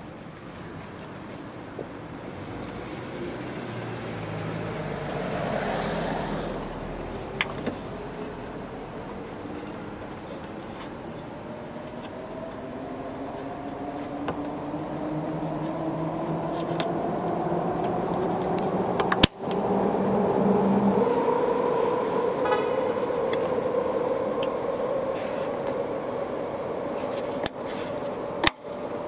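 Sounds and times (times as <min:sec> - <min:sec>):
vehicle engine running: 0:00.6 - 0:29.0.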